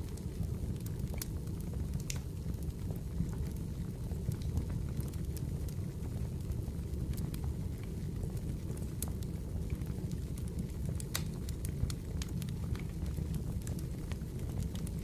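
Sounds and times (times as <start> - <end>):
fire flames rumbling: 0.0 - 15.0
fire pops and snaps: 0.0 - 15.0.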